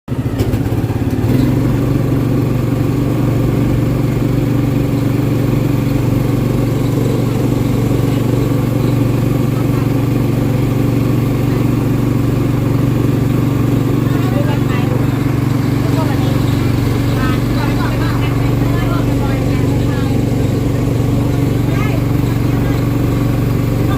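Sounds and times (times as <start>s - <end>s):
vehicle engine droning: 0.1s - 23.9s.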